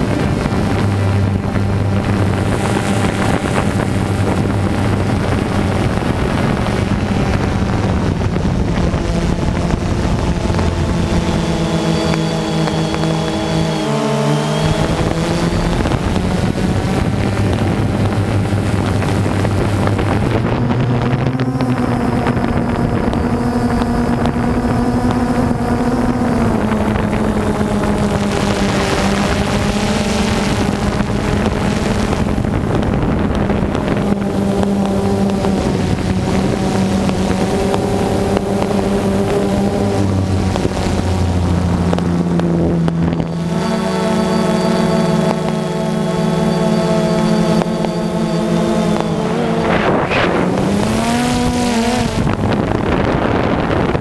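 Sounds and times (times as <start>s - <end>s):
drone propellers whirring: 0.0s - 54.0s.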